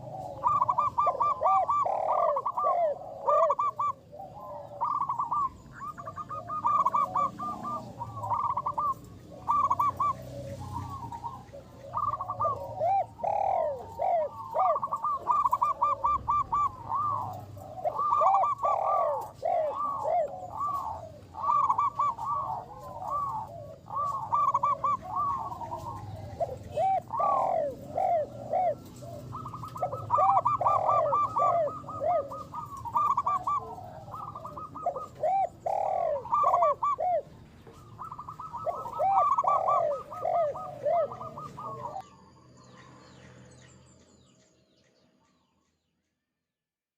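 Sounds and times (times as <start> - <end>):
doves cooing: 0.0 - 43.6.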